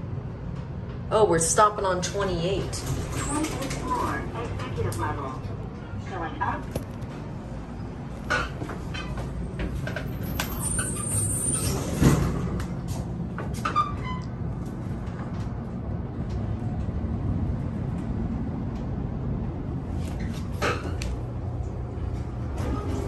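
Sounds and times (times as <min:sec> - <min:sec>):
elevator humming and rumbling: 0:00.0 - 0:23.0.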